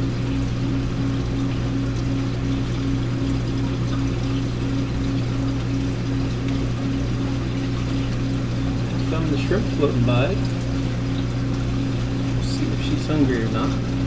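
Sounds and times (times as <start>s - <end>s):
aquarium pump humming: 0.0s - 14.0s
water pouring and trickling: 0.0s - 14.0s.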